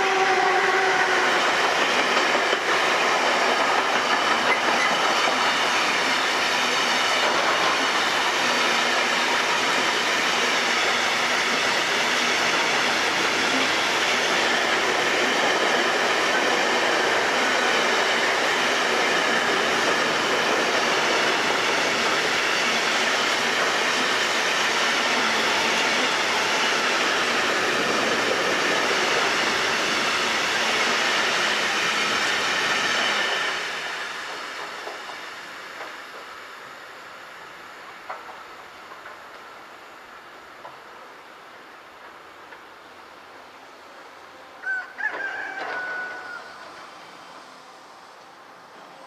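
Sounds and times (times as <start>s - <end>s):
train wheels on rails: 0.0s - 49.0s.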